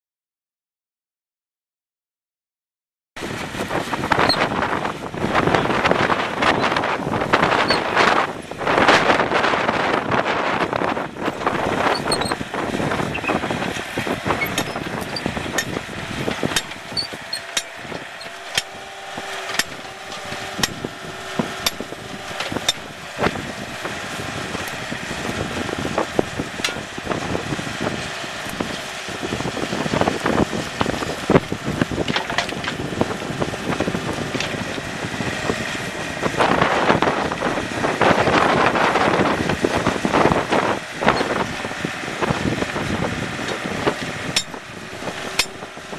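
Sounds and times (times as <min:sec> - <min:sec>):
diesel engine running: 0:03.2 - 0:45.9.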